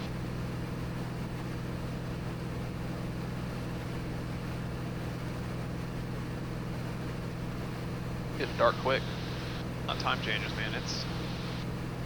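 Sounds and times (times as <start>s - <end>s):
aircraft engine cabin drone: 0.0s - 12.0s.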